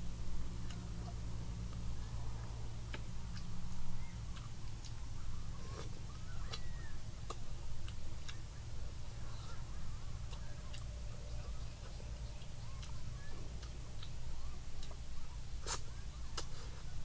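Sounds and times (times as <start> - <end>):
low steady hum: 0.0 - 17.0
crunchy chewing: 0.5 - 17.0.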